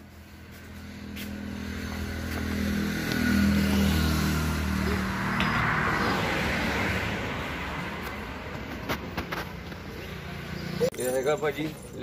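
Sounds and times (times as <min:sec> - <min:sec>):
passing vehicle engine hum: 0:00.0 - 0:12.0.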